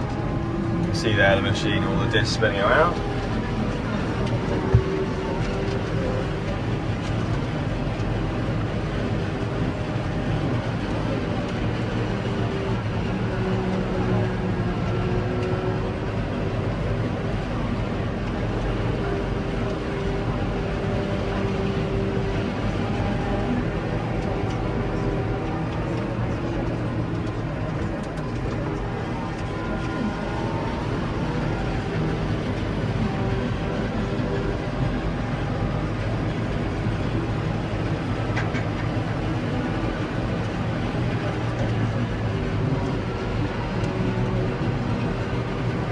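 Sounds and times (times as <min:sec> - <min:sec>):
forage harvester engine drone: 0:00.0 - 0:45.9.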